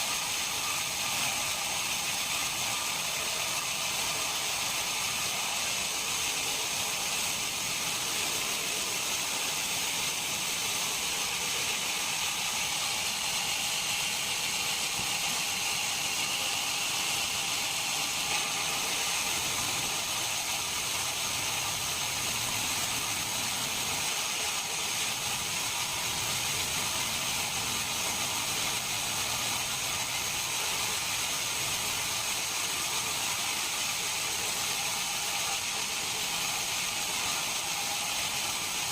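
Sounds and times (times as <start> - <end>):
sawmill machinery hiss and whir: 0.0 - 38.9.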